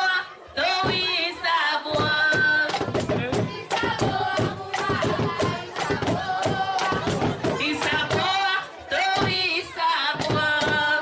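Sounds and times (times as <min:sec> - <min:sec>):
steady drumbeats: 0:00.6 - 0:11.0.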